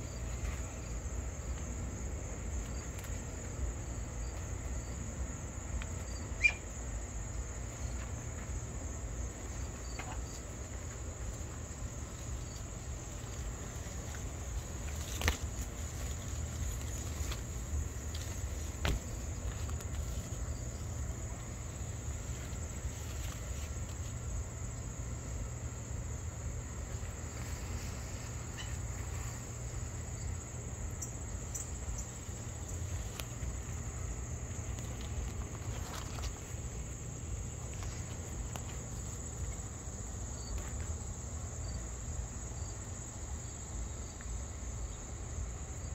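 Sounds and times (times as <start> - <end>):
insects trilling: 0.0 - 45.9.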